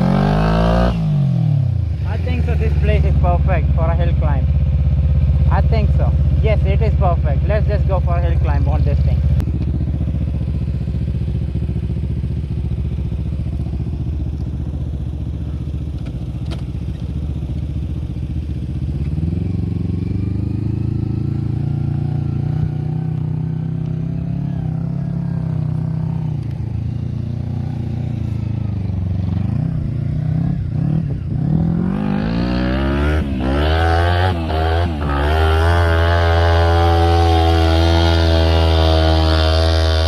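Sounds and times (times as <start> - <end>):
go-kart engine idling and revving: 0.0 - 40.0.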